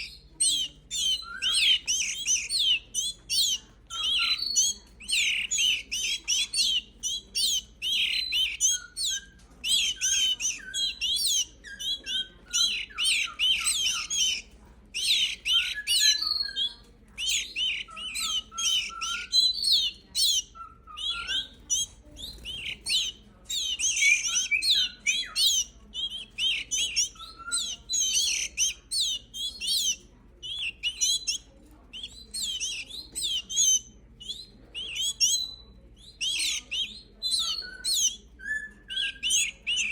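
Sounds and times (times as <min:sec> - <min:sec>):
canaries chirping: 0:00.0 - 0:39.9.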